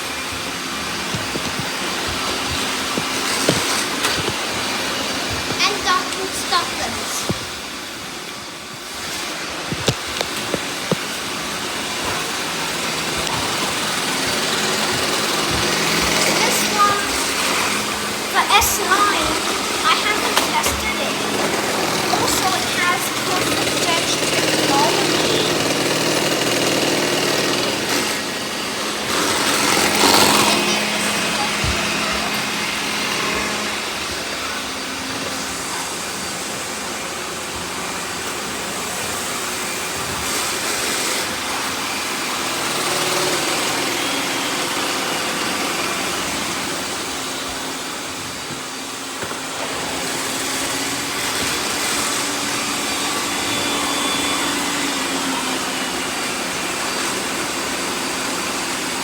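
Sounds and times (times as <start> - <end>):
robot vacuums running: 0.0 - 59.0.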